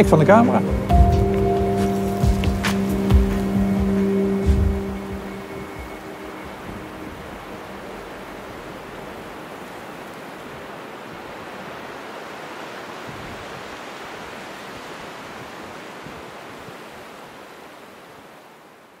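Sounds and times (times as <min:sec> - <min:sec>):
sea surf rushing: 0:00.0 - 0:19.0.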